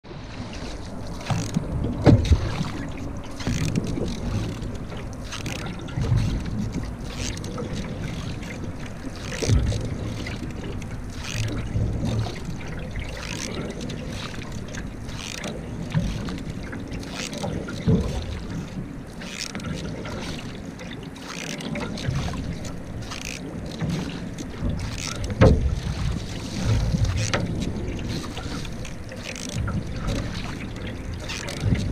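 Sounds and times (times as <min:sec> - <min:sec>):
paddle strokes in water: 0:00.0 - 0:31.9
water rushing along hull: 0:00.0 - 0:31.9.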